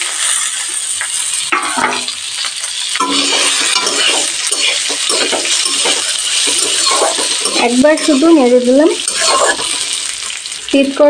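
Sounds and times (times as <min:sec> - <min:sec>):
vegetables sizzling in hot oil: 0:00.0 - 0:11.0
spatula scraping and clinking on pan: 0:01.0 - 0:10.4.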